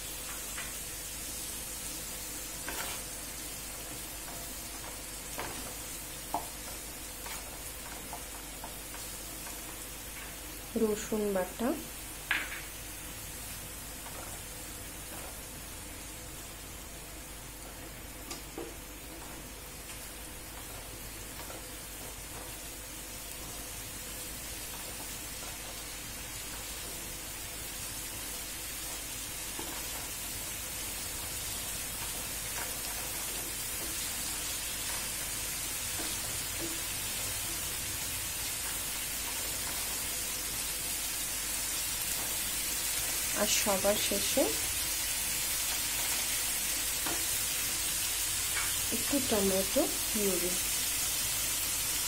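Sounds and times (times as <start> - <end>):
vegetables sizzling in oil: 0.0 - 52.0.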